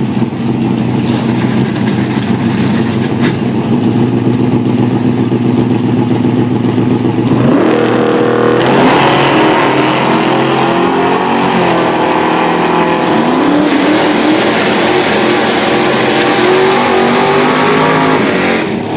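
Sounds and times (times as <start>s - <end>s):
drag car accelerating: 0.0s - 18.9s.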